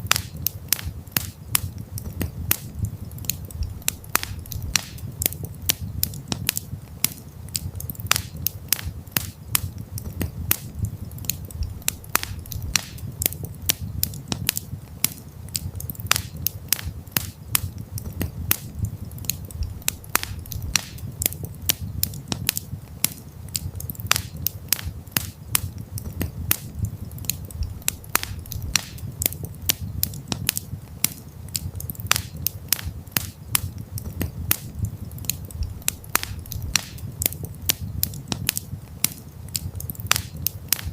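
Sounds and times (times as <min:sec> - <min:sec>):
burning wood popping and snapping: 0:00.0 - 0:40.9
low rumble of fire: 0:00.0 - 0:40.9.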